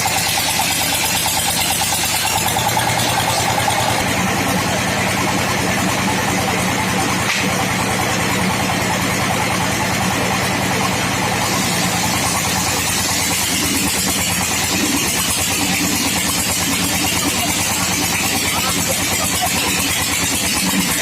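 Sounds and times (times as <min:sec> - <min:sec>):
sawmill machine running: 0:00.0 - 0:21.0.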